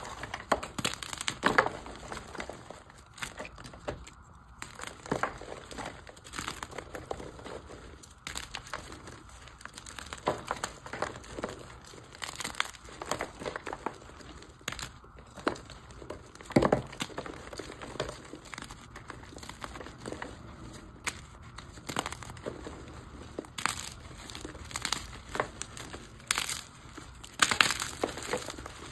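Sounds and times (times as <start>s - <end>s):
chalk crunching and crackling: 0.0s - 28.9s.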